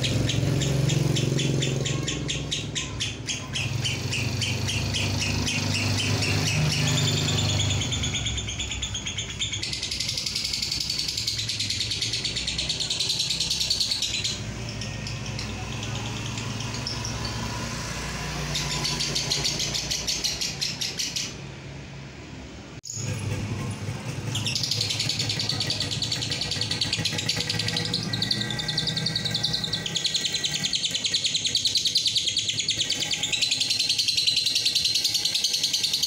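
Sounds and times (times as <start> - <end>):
lovebird chattering trill: 0.0 - 17.6, 24.2 - 36.0.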